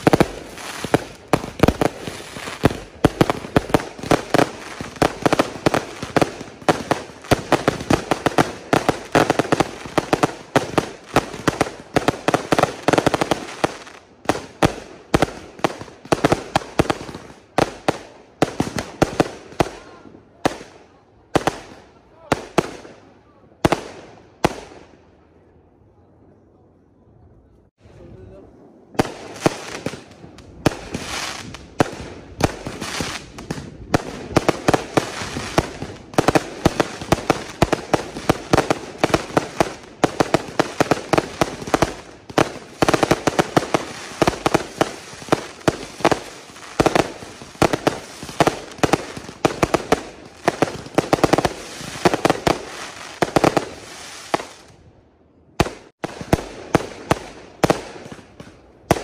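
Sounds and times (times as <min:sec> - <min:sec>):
fireworks bangs and crackle: 0:00.0 - 0:25.1, 0:28.0 - 0:59.0.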